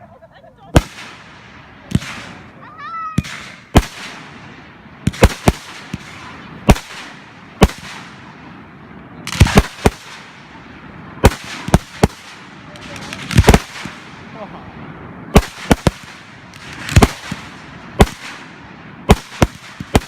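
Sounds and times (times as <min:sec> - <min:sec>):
fireworks bangs: 0:00.7 - 0:20.0.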